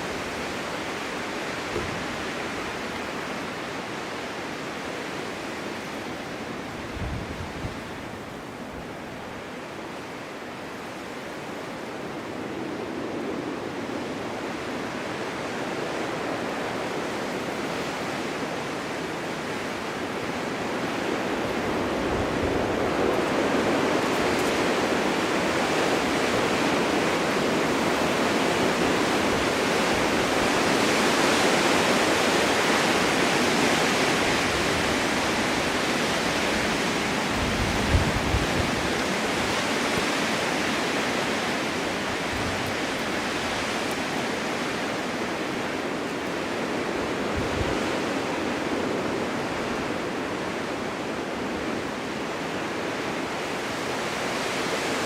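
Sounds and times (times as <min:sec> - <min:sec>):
wind blowing in gusts: 0:00.0 - 0:55.0.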